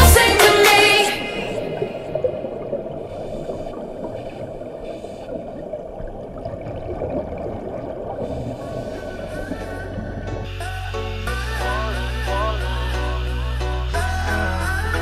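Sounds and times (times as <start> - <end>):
muffled underwater rumbling hiss: 0.2 - 15.0.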